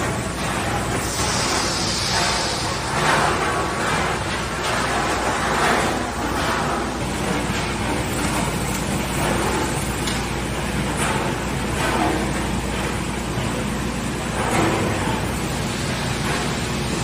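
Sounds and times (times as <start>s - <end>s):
packaging machinery humming: 0.0s - 17.0s.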